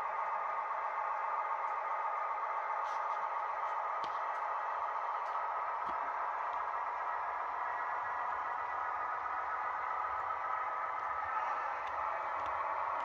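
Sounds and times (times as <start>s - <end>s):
model train coaches rolling: 0.0s - 13.0s.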